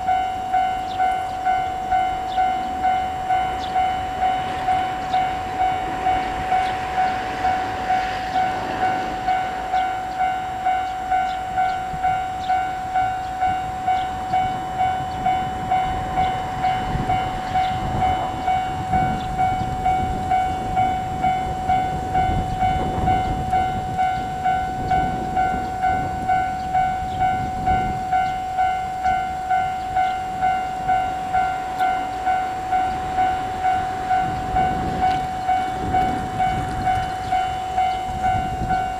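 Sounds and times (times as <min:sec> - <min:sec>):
level crossing alarm ringing: 0:00.0 - 0:38.9
train rumbling over crossing: 0:00.0 - 0:38.9.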